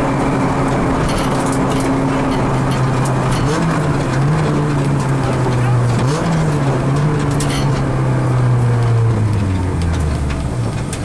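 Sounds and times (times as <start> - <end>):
car engine running at low revs: 0.0 - 11.0
road and tyre noise: 0.0 - 11.0.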